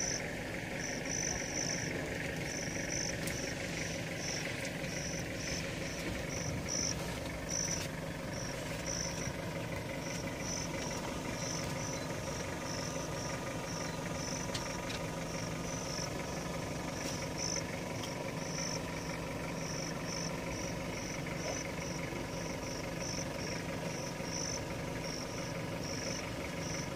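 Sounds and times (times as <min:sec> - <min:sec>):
insect chirping: 0:00.0 - 0:26.9
vehicle engine idling: 0:00.0 - 0:26.9.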